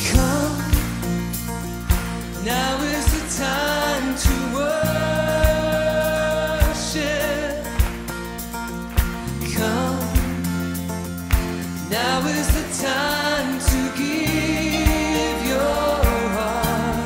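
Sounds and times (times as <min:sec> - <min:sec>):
person singing: 0:00.0 - 0:01.2, 0:02.2 - 0:08.1, 0:09.2 - 0:10.7, 0:11.6 - 0:17.0
backing band playing: 0:00.0 - 0:17.0.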